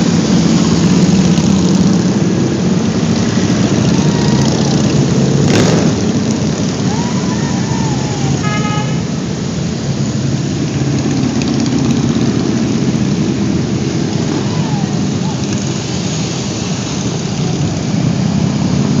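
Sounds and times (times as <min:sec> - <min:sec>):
motorcycles riding past: 0:00.0 - 0:19.0.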